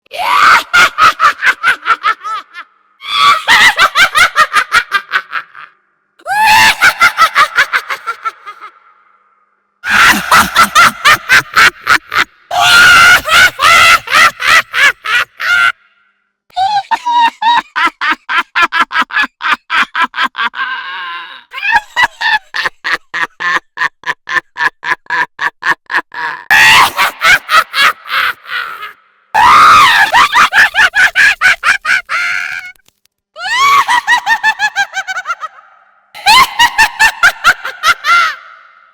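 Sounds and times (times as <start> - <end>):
shrill witch cackle: 0.1 - 15.9, 16.5 - 32.8, 33.4 - 38.9.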